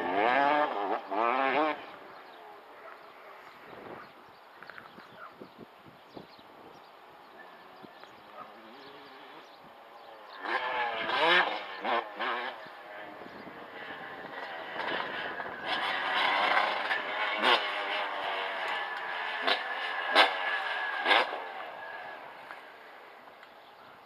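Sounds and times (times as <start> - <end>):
dirt bike engine revving: 0.0 - 4.2, 7.8 - 23.3.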